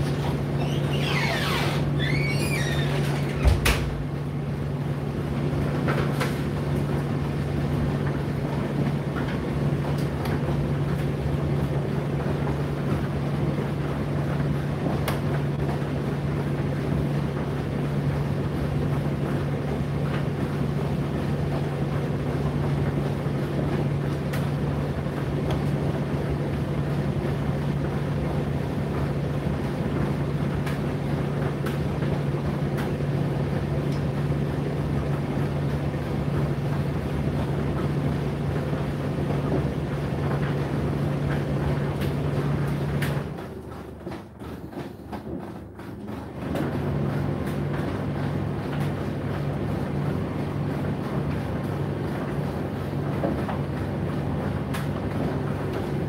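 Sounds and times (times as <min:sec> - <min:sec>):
tumble dryer running: 0:00.0 - 0:56.0.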